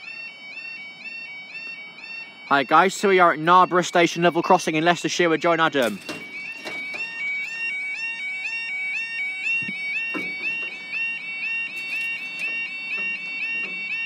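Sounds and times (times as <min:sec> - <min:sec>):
level crossing warning alarm: 0:00.0 - 0:14.0.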